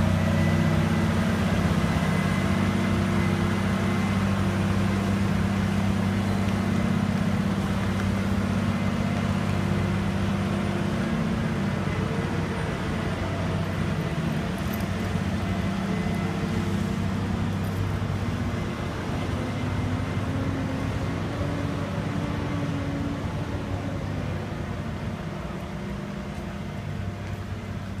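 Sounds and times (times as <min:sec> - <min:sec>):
diesel truck engine drone: 0:00.0 - 0:28.0
vehicles passing on wet road: 0:00.0 - 0:28.0.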